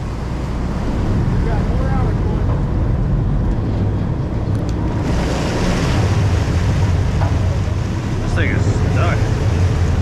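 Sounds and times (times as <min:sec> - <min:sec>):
low rumble: 0:00.0 - 0:10.0
water washing against boat: 0:00.0 - 0:10.0.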